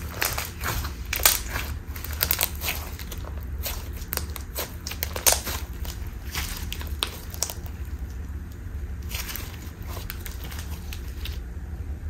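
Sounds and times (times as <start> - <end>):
slime squishing and crackling: 0.0 - 11.5.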